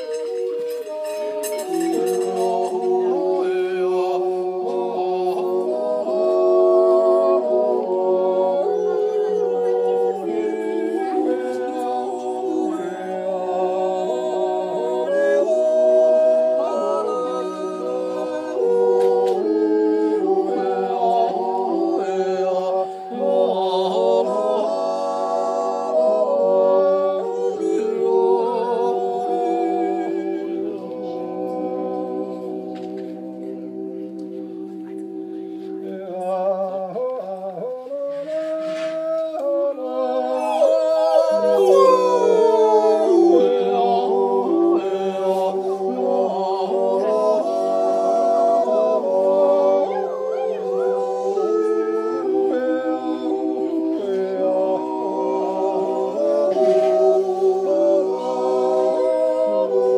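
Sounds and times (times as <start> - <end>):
men yodelling in harmony: 0.0 - 32.6, 35.9 - 59.9.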